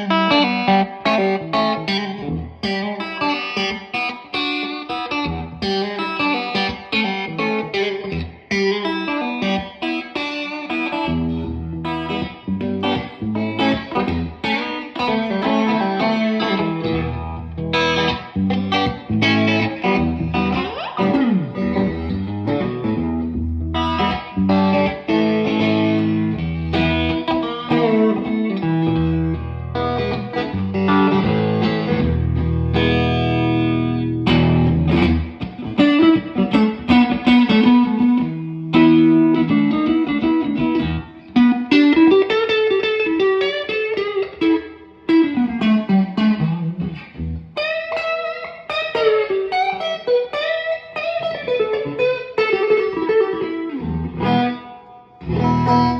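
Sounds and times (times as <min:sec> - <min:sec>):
electric guitar chords and lines: 0:00.0 - 0:55.9
guitar string bends: 0:10.9 - 0:55.9.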